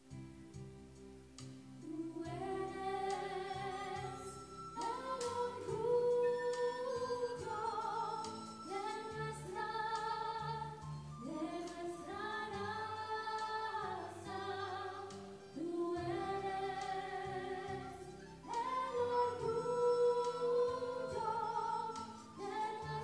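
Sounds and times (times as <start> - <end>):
soft low accompaniment: 0.0 - 23.0
girls singing slow song: 1.8 - 23.0.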